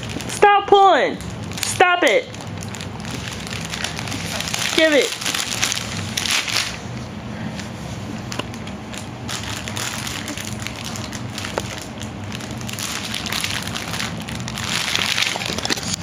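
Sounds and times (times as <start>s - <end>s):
low steady hum: 0.0s - 16.0s
plastic packaging crinkling: 0.0s - 16.0s.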